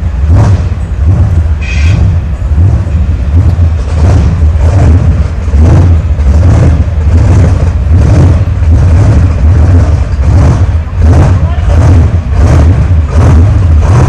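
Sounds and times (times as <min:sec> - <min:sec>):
truck engines rumbling: 0:00.0 - 0:14.0.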